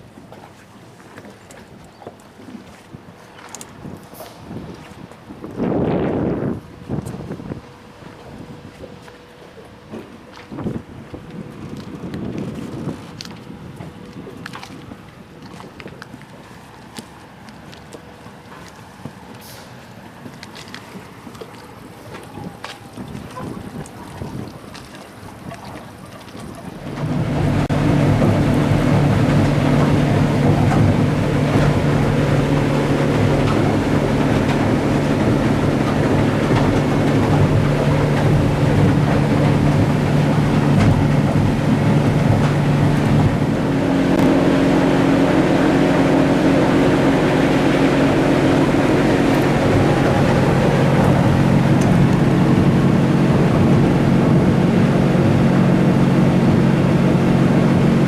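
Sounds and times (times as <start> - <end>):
outboard motor running: 0.0 - 58.0
water noise: 0.0 - 58.0
wind: 0.0 - 58.0.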